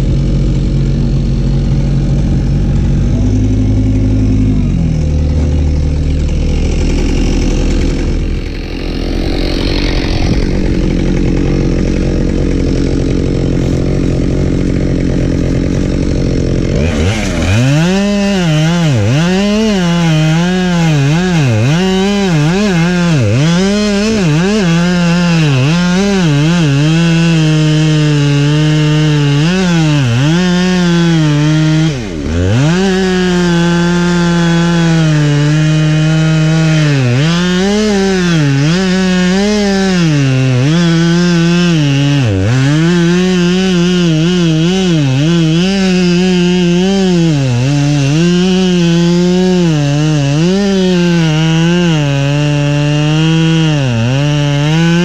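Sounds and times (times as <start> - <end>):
engine running steadily: 0.0 - 50.8
chainsaw cutting wood: 0.0 - 55.0.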